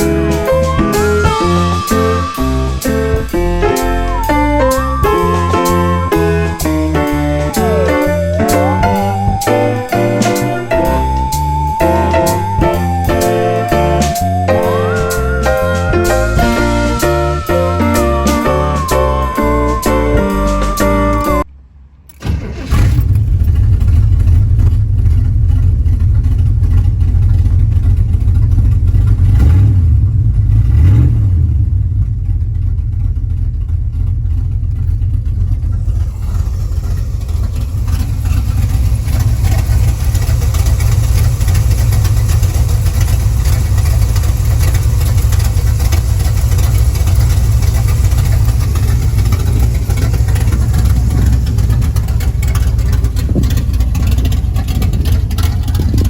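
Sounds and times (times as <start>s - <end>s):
engine rumbling and revving: 0.0s - 56.0s.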